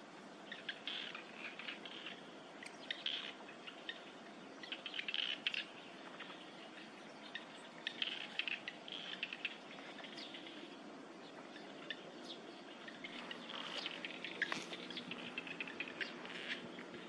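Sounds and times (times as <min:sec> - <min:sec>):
low steady background hum: 0:00.0 - 0:17.0
small birds chirping: 0:00.4 - 0:17.0.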